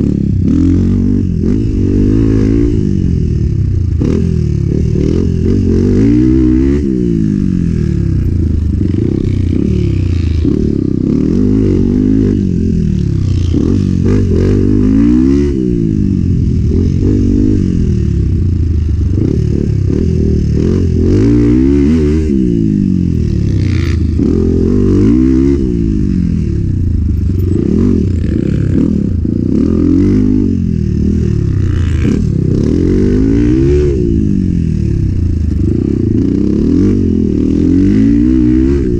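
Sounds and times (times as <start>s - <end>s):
muffled motorbike engine revving: 0.0s - 38.9s.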